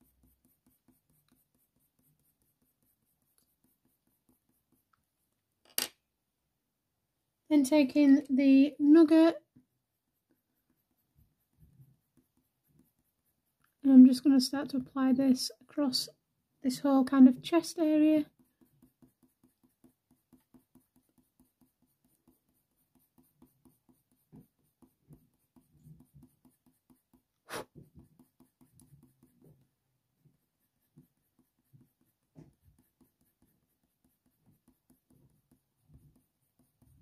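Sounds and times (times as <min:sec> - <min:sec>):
pencil shading on paper: 0:00.0 - 0:05.5, 0:07.8 - 0:37.0.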